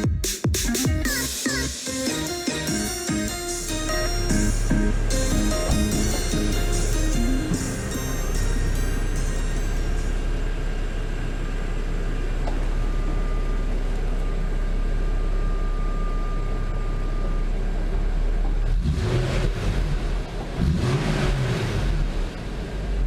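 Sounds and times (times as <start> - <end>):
car engine idling and revving: 1.3 - 23.0.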